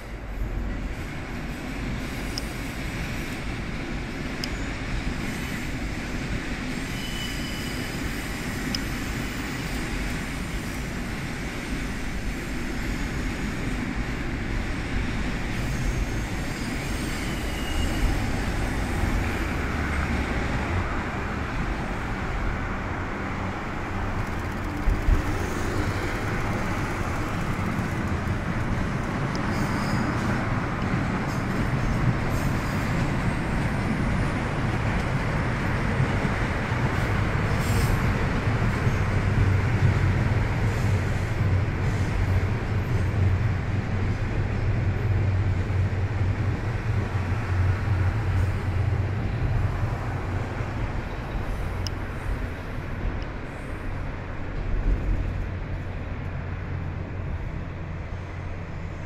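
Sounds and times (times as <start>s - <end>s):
diesel locomotive engine rumble: 0.0s - 59.0s
road traffic: 0.0s - 59.0s.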